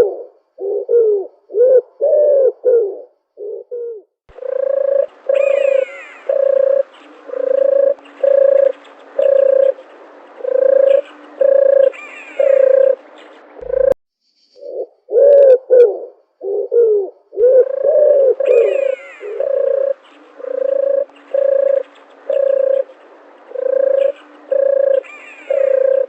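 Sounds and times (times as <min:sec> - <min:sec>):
dove cooing: 0:00.0 - 0:14.0, 0:14.7 - 0:26.0.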